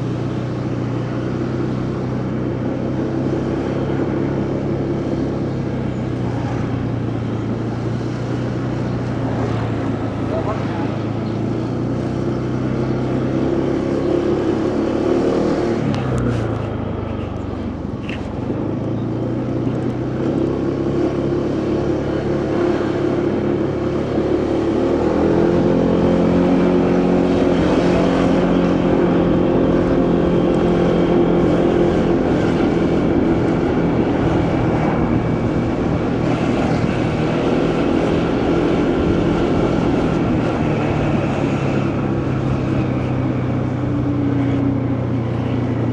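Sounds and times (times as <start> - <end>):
motorcycle engine running: 0.0 - 45.9
wind and road noise: 0.0 - 45.9.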